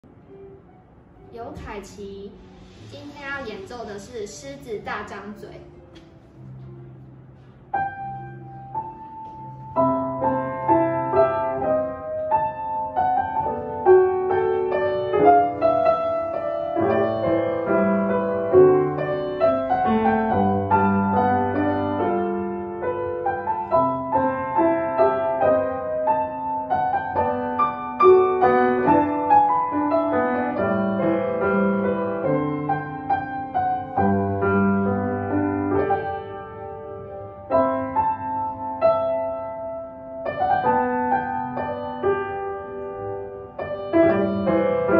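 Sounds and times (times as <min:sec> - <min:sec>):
grand piano playing: 0:00.0 - 0:44.9.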